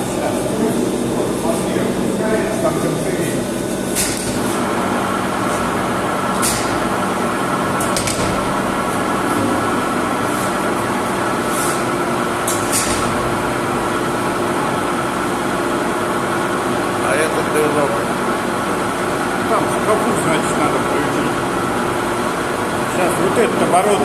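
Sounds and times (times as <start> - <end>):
grinding machine humming: 0.0 - 24.0.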